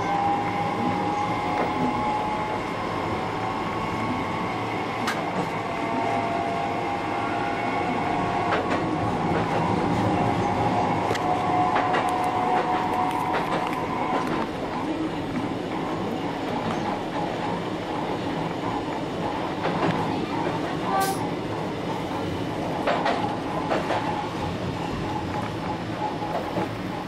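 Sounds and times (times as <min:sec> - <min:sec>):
electric train rumbling on rails: 0:00.0 - 0:27.0.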